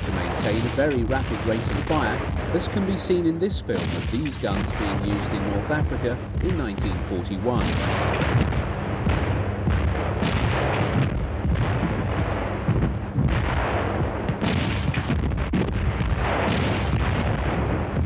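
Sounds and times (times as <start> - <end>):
artillery shots: 0.0 - 18.0
continuous rumble: 0.0 - 18.0.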